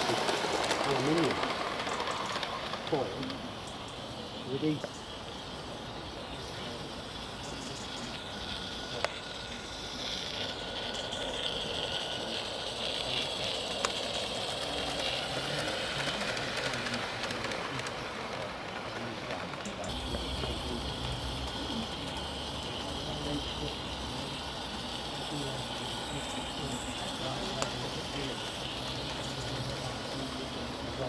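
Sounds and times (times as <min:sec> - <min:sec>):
steam locomotive hissing: 0:00.0 - 0:31.0.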